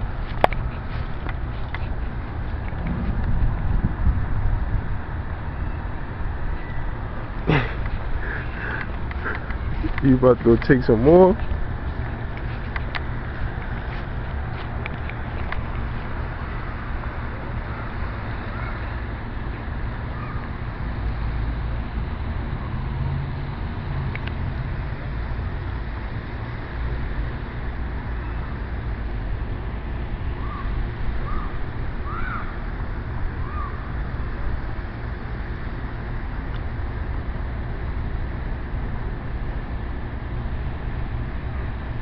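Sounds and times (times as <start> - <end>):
distant traffic rumble: 0.0 - 42.0
wind: 0.0 - 42.0.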